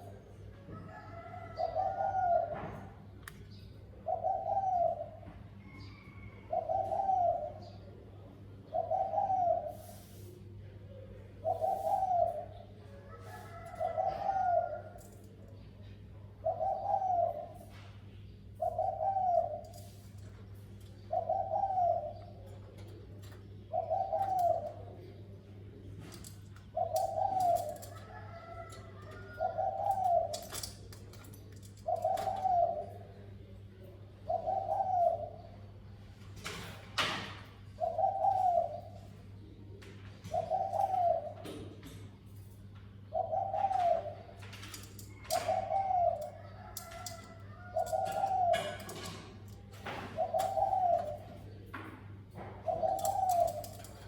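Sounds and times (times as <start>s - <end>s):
dove cooing: 0.0s - 3.2s, 3.8s - 54.0s.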